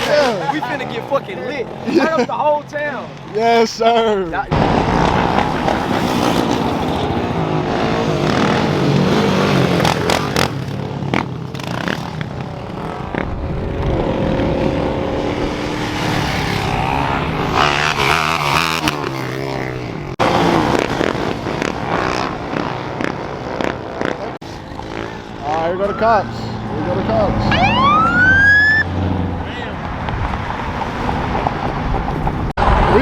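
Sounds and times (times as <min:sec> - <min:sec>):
vehicle engines revving: 0:00.0 - 0:33.0.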